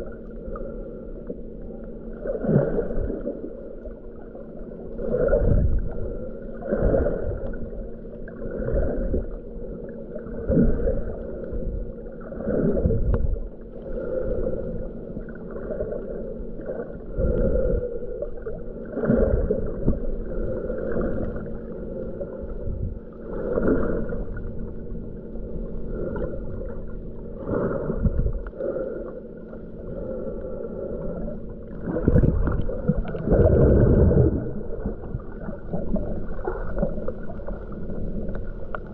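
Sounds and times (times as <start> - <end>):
steady low hum: 0.0 - 38.9
water swishing underwater: 0.0 - 38.9.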